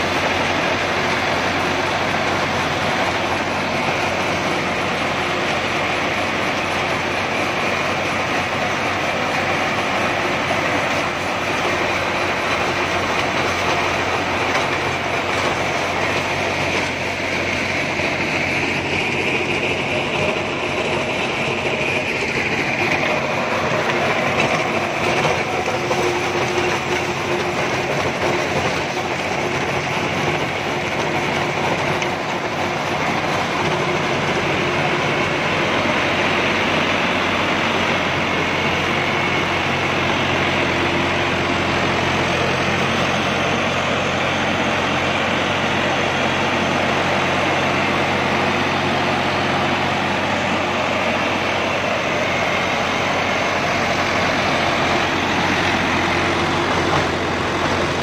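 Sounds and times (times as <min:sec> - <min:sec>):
rotary tiller churning soil: 0:00.0 - 0:58.0
tractor diesel engine running: 0:00.0 - 0:58.0.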